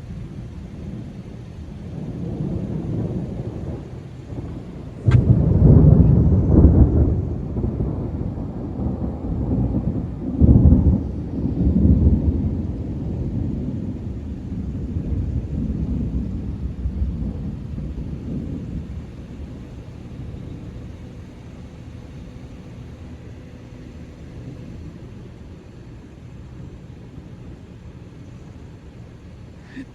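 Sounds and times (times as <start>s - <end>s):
thunder rumbling: 0.0s - 29.9s.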